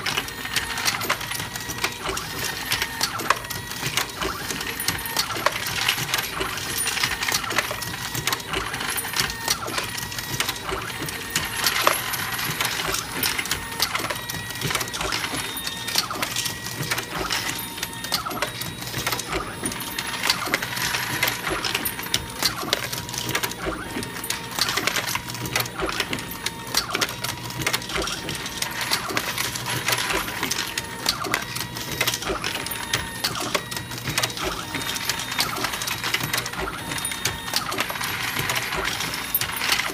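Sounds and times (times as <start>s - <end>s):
reloading press clattering: 0.0s - 39.9s.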